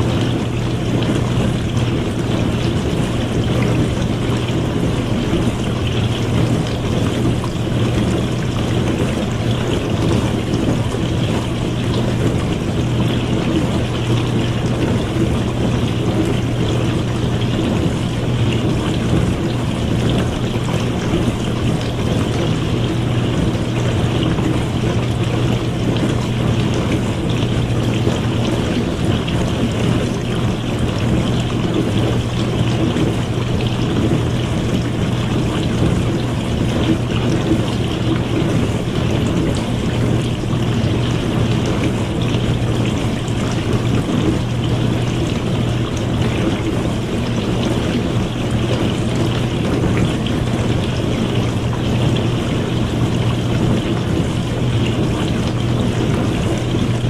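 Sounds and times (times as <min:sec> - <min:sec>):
dishwasher pump motor hum: 0:00.0 - 0:57.0
water spraying inside dishwasher: 0:00.0 - 0:57.0.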